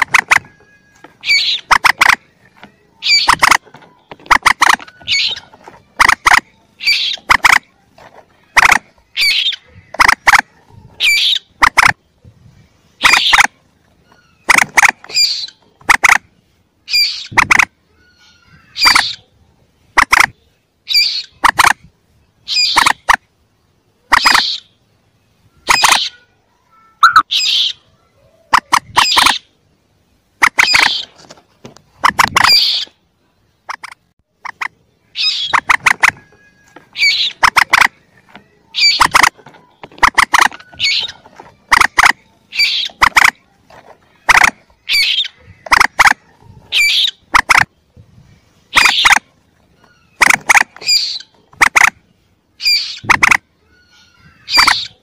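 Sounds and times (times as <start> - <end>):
young moorhen squeaky calls: 0.0 - 7.8, 8.4 - 12.1, 12.8 - 21.8, 22.4 - 23.2, 24.0 - 29.7, 30.4 - 31.2, 31.9 - 33.0, 33.6 - 43.5, 44.1 - 47.9, 48.5 - 55.0.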